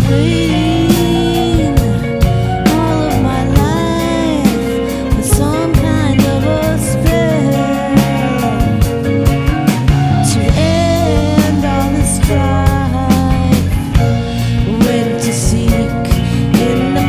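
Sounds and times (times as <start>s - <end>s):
rock ballad played by a band: 0.0s - 17.0s.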